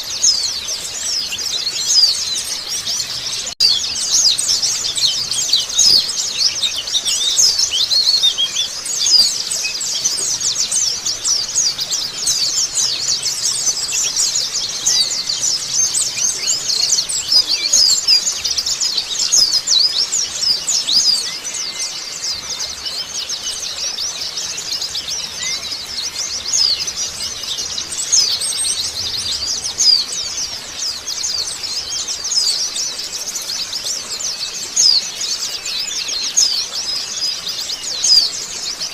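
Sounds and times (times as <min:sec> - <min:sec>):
flock of birds twittering: 0:00.0 - 0:38.9.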